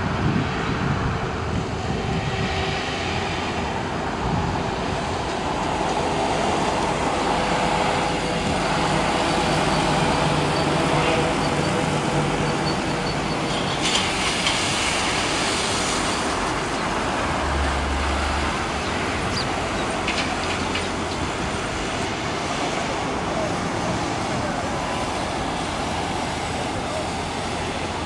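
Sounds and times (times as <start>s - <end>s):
distant machinery rumble: 0.0s - 28.0s
traffic: 0.0s - 28.0s.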